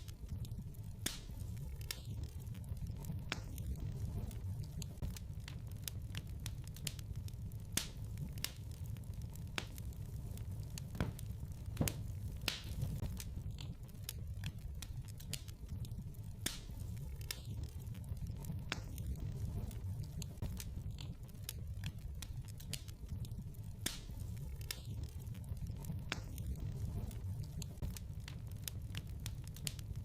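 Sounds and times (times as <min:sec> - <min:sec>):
fire crackling and popping: 0:00.0 - 0:30.0
fire rumbling: 0:00.0 - 0:30.0.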